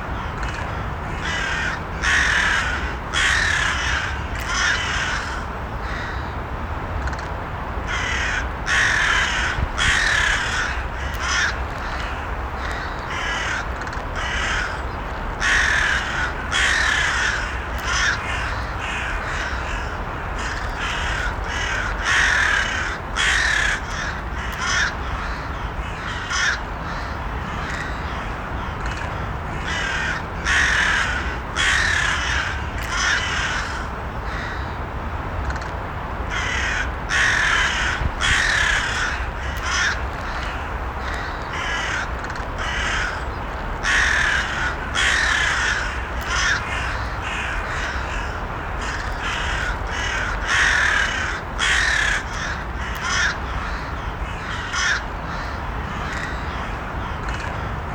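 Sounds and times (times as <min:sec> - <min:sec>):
steady background noise: 0:00.0 - 0:57.9
crows cawing: 0:00.2 - 0:06.3, 0:07.9 - 0:34.8, 0:36.3 - 0:57.7.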